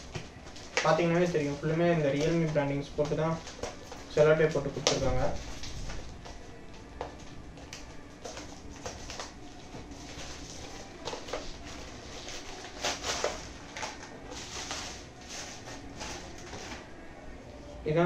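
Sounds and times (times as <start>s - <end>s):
plastic crinkling and rustling: 0.0s - 17.1s.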